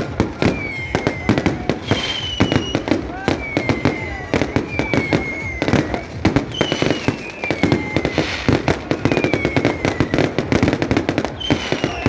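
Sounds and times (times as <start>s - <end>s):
fireworks bangs and crackles: 0.0s - 12.0s
whistling fireworks: 0.0s - 12.0s.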